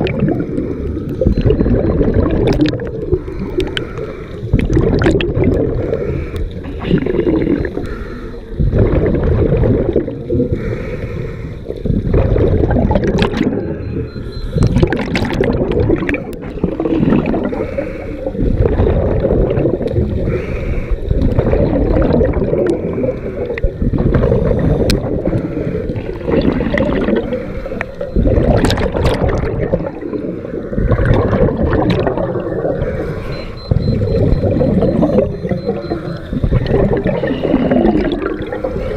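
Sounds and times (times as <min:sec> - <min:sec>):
regulator bubbling underwater: 0:00.0 - 0:38.9.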